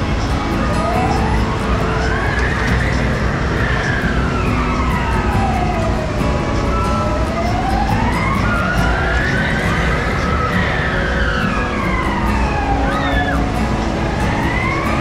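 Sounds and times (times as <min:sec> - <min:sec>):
fairground din: 0:00.0 - 0:15.0
siren wail: 0:00.0 - 0:15.0.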